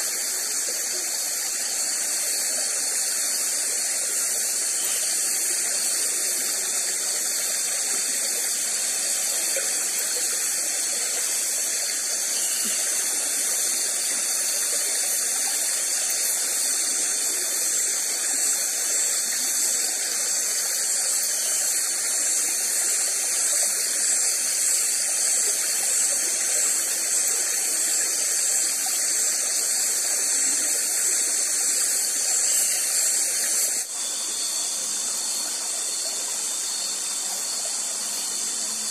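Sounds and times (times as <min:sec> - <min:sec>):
night insects chorus: 0:00.0 - 0:38.9.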